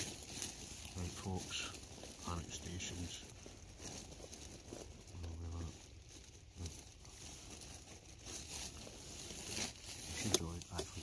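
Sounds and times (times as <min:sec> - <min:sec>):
bags rustling and crinkling: 0:00.0 - 0:11.0.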